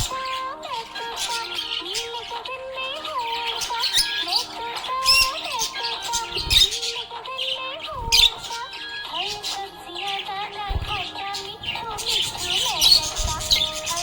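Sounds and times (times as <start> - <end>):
budgerigars chirping: 0.0 - 2.4, 3.0 - 14.0
background music: 0.0 - 14.0.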